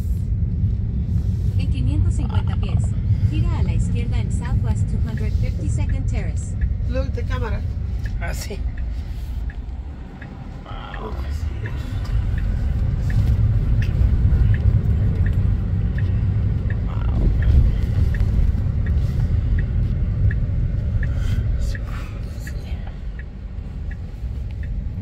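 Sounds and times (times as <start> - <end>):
road and tyre rumble: 0.0 - 25.0
turn signal ticking: 0.3 - 25.0.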